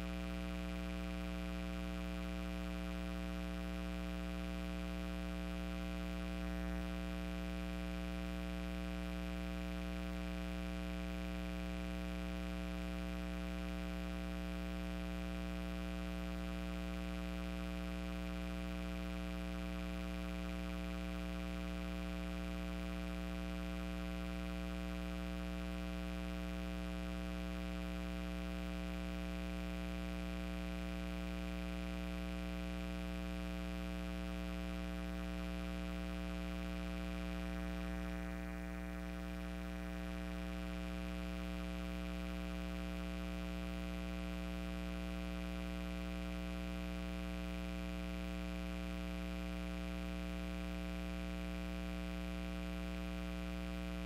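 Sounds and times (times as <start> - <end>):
buzzy electrical hum: 0.0 - 54.0.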